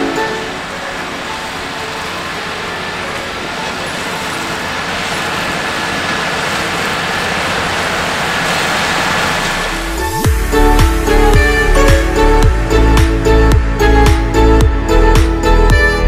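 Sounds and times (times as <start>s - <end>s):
flail mower shredding crop: 0.0s - 14.2s
tractor diesel engine under load: 0.0s - 16.0s.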